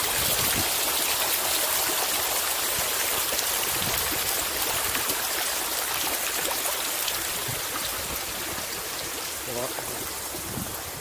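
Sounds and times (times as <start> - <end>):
water feature splashing: 0.0 - 11.0.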